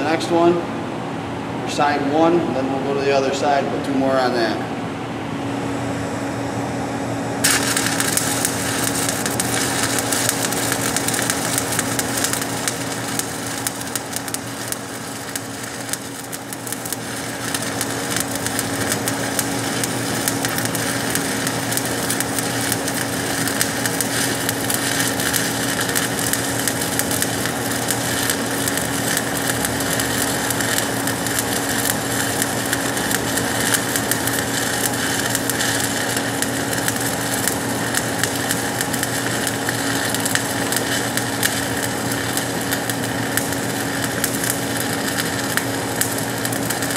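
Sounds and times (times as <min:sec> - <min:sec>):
steady low hum: 0:00.0 - 0:46.9
arc welding crackling sizzle: 0:07.4 - 0:46.9.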